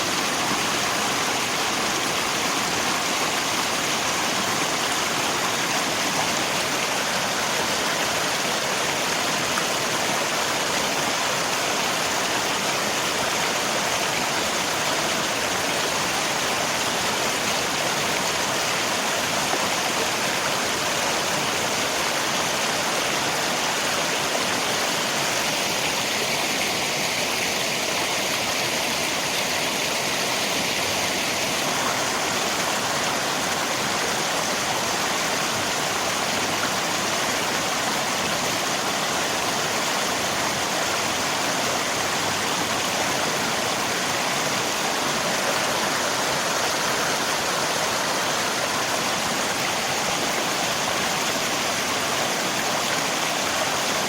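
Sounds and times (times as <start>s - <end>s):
rain: 0.0s - 54.0s
river water rushing: 0.0s - 54.0s.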